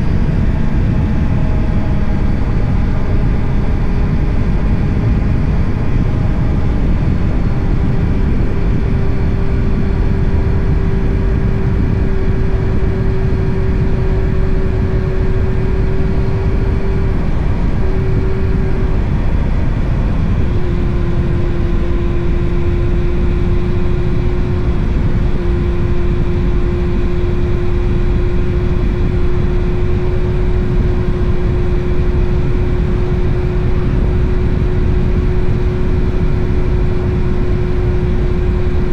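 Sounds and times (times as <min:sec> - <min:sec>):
motorcycle engine cruising: 0:00.0 - 0:38.9
wind rumble on microphone: 0:00.0 - 0:38.9.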